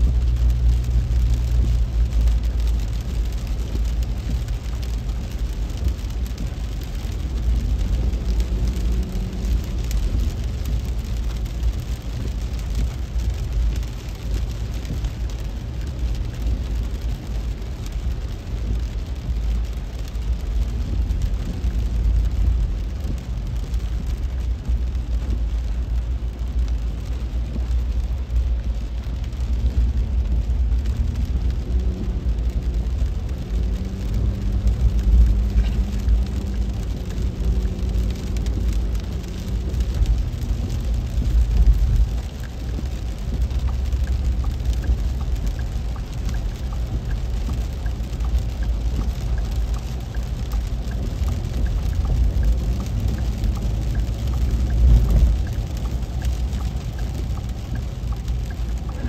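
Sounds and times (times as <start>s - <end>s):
car driving on wet road: 0.0s - 59.0s
heavy rain on car windshield: 0.0s - 59.0s.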